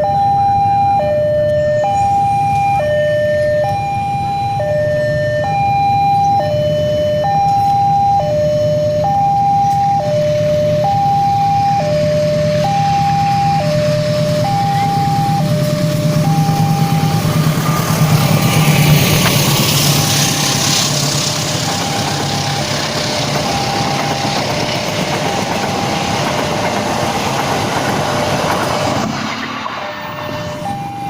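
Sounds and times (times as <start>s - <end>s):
diesel locomotive engine hum: 0.0s - 31.0s
rail noise: 0.0s - 31.0s
two-tone warning signal: 0.0s - 31.0s.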